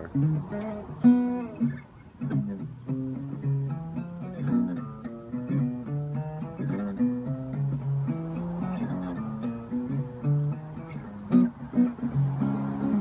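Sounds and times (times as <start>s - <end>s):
acoustic guitar strummed and picked: 0.0s - 13.0s.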